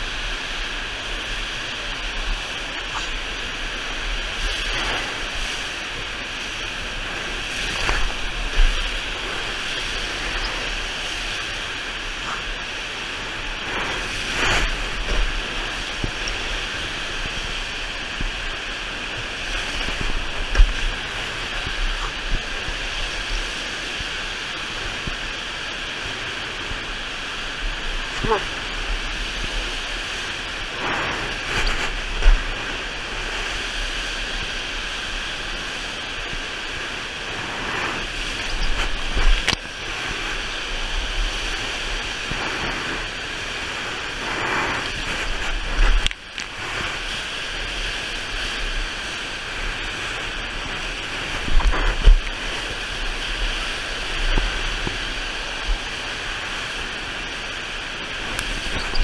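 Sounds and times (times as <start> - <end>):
surges of spray: 0.0 - 59.0
water rushing from wave machine: 0.0 - 59.0.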